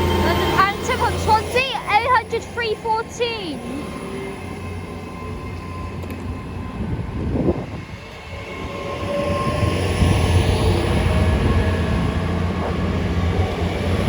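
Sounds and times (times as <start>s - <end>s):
diesel train rumbling: 0.0s - 14.0s.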